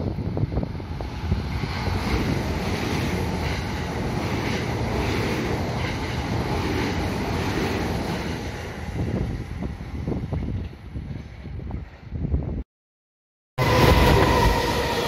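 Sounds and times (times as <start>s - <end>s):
train passing at speed: 0.0s - 12.2s, 13.6s - 15.0s
wind buffeting microphone: 0.0s - 12.6s.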